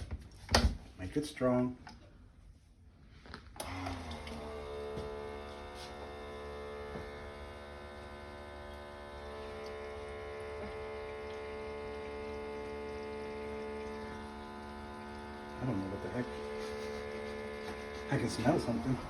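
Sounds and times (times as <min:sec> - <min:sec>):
water pump humming: 0:00.0 - 0:19.0.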